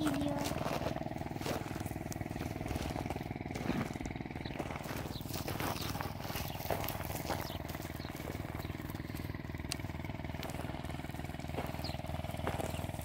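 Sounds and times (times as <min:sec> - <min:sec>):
low pulsing drone: 0:00.0 - 0:13.0.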